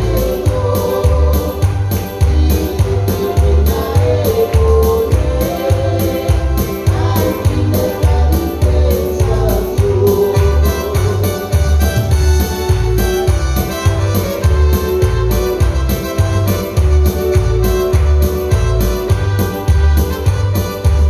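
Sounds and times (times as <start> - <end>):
praise music melody: 0.0 - 21.0
pulsing bass beat: 0.0 - 21.0.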